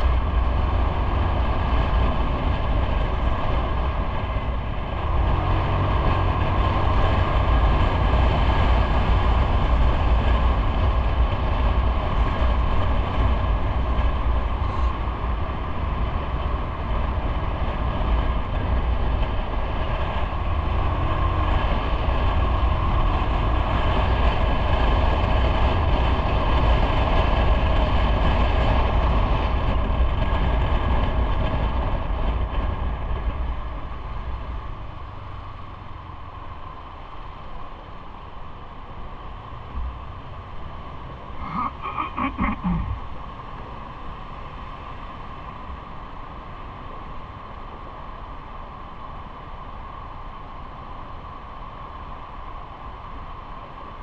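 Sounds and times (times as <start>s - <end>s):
train rumbling and whining: 0.0s - 54.0s.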